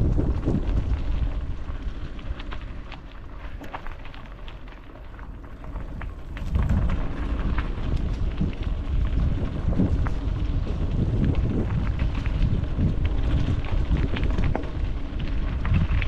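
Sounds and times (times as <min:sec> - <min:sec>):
clicks and rattles from riding: 0:00.0 - 0:16.0
wind buffeting microphone: 0:00.0 - 0:16.0.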